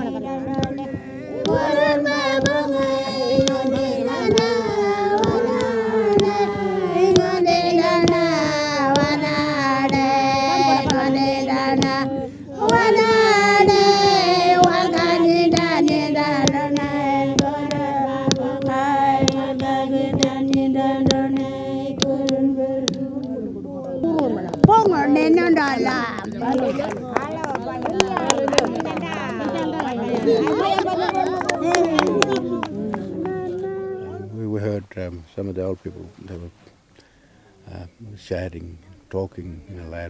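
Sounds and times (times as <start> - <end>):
sharp rhythmic taps: 0.0 - 33.4
women singing together: 0.0 - 34.4.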